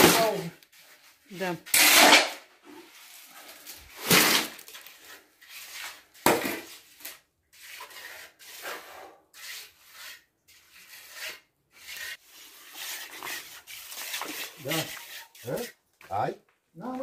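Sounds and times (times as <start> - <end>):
hand tool scraping concrete: 0.0 - 15.8.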